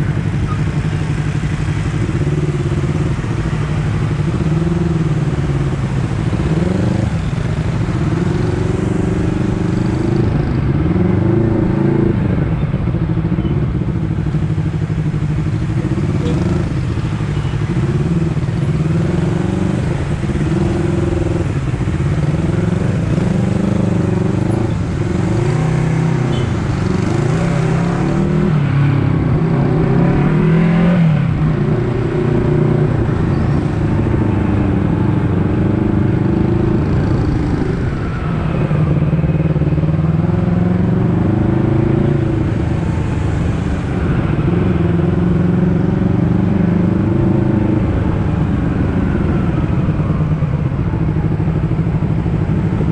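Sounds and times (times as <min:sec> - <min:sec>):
motorcycle engine revving: 0:00.0 - 0:12.6, 0:13.2 - 0:52.9.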